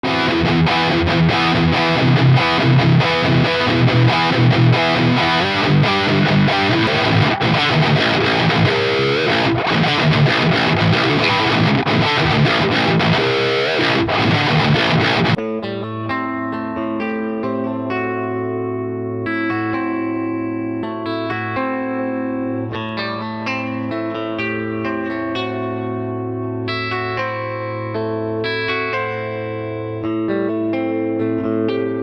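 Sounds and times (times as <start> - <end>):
clean electric guitar notes: 0.0 - 32.0
distorted electric guitar riff: 0.0 - 32.0.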